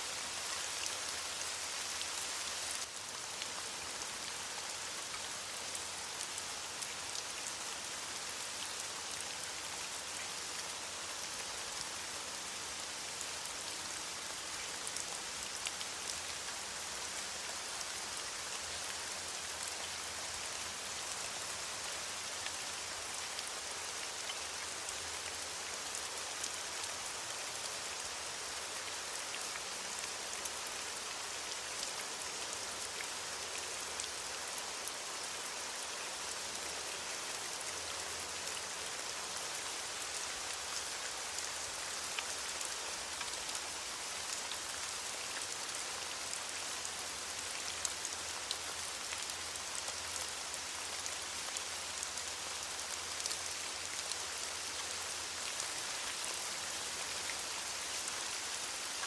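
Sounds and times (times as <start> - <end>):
rain falling on leaves: 0.0 - 59.0.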